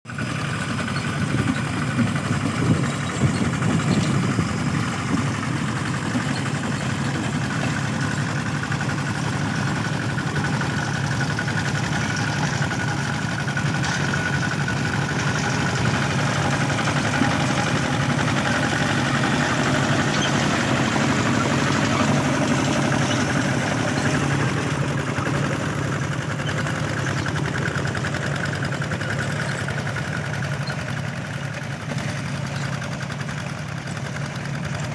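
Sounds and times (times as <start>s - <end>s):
small tractor engine running: 0.0s - 34.9s.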